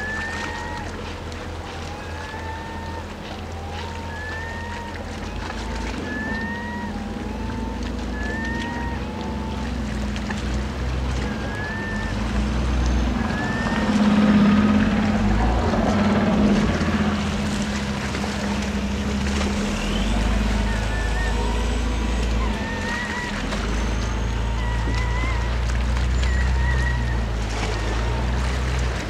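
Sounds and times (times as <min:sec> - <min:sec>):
bird short rising calls: 0:00.0 - 0:15.8, 0:18.7 - 0:28.7
ferry engines droning: 0:00.0 - 0:29.0
water noise: 0:00.0 - 0:29.0
wind: 0:00.0 - 0:29.0.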